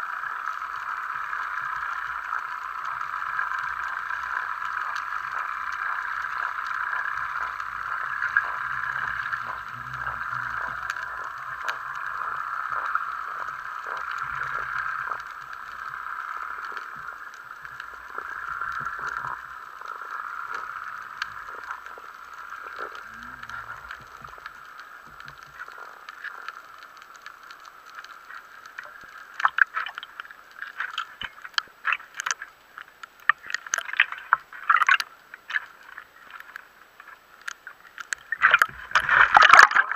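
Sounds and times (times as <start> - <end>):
water rushing underwater: 0.0 - 39.9
water splashing: 0.0 - 39.9.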